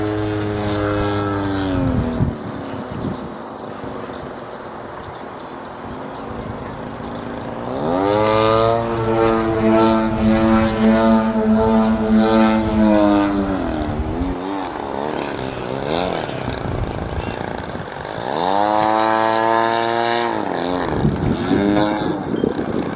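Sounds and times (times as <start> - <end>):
model plane engine revving: 0.0 - 4.8, 6.3 - 22.9.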